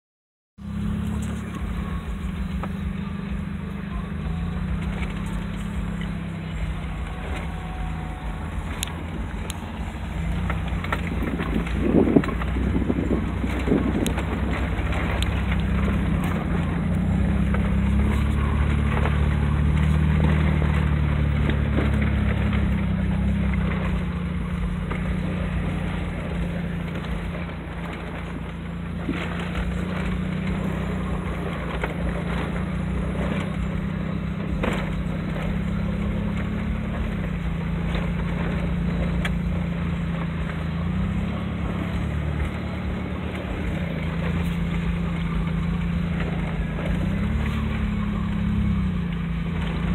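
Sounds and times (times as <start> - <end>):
tyres on gravel road: 0.6 - 49.9
vehicle engine: 0.6 - 49.9.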